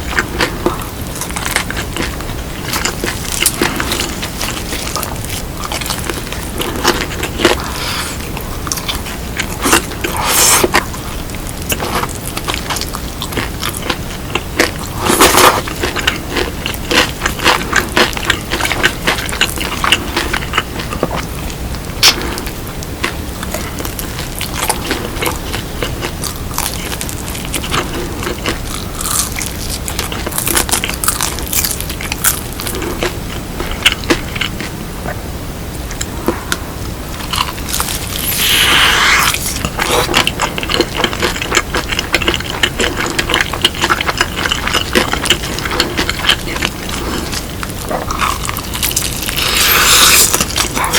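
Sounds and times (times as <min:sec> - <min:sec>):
crunching and chewing fried chicken: 0:00.0 - 0:50.9.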